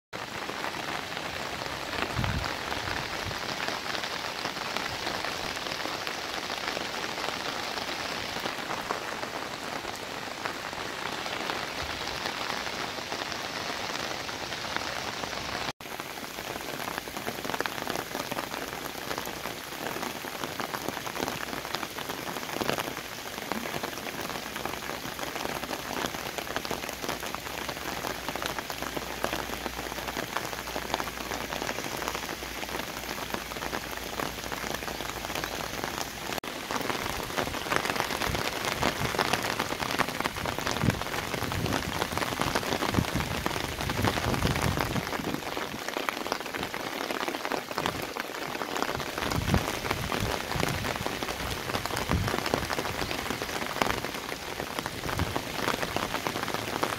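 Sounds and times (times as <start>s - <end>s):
rain falling on water: 0.1s - 56.9s.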